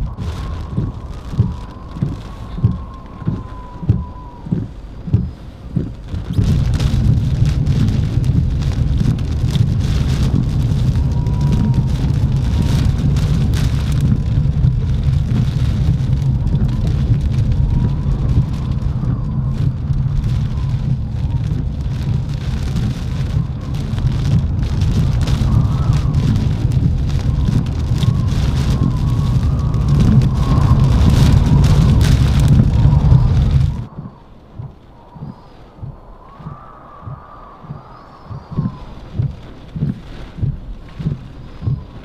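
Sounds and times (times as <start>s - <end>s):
heavy rain beating on a car: 0.0s - 42.0s
low rumble of wind and tyres: 0.0s - 42.0s.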